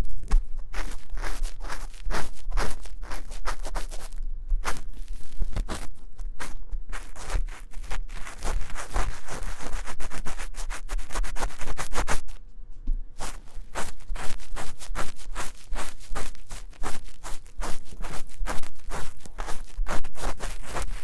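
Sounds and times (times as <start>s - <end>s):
tool scratching inside microphone ear: 0.0s - 12.4s, 13.2s - 21.0s.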